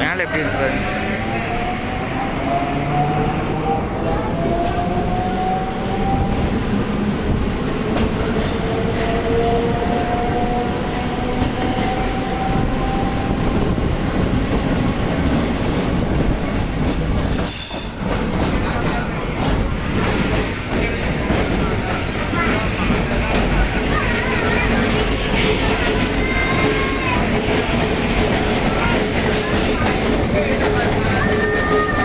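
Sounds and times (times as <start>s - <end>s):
electric train rumbling on track: 0.0s - 32.0s.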